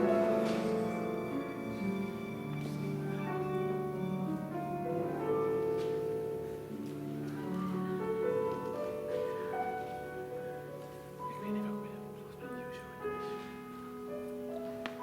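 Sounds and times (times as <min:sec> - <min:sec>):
chamber ensemble holding notes: 0:00.0 - 0:15.0
piano: 0:00.0 - 0:15.0.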